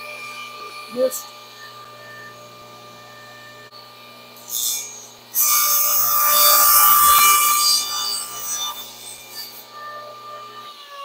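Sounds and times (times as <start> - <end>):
table saw cutting wood: 0.0 - 11.0.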